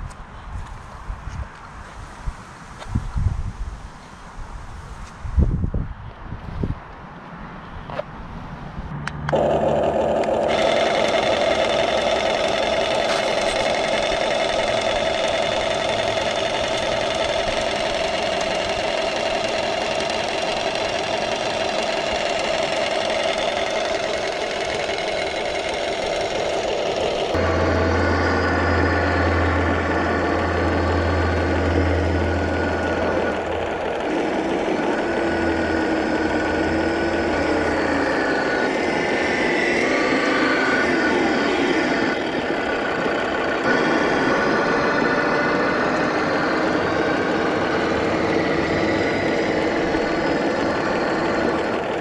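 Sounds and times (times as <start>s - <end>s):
deep steady hum: 9.0s - 52.0s
toy excavator engine idling: 9.0s - 52.0s.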